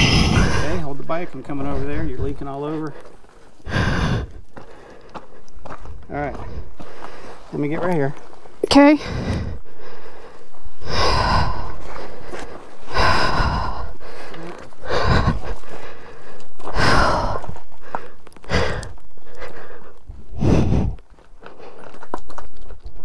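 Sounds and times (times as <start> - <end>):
person breathing heavily: 0.0 - 7.6, 8.7 - 22.1.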